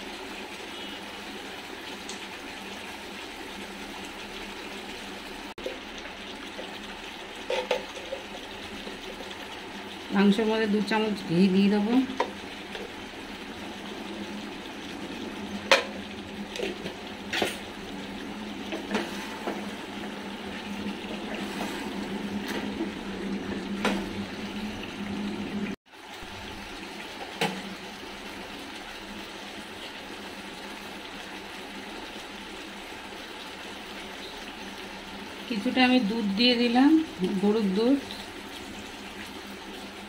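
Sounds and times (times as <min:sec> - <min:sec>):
meat sizzling in a pan: 0:00.0 - 0:24.8, 0:25.8 - 0:40.0.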